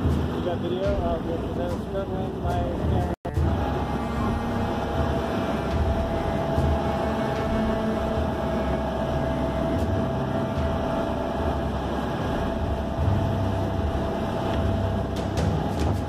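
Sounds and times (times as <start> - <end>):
boat engine humming: 0.0 - 16.0
water churning along hull: 0.0 - 16.0.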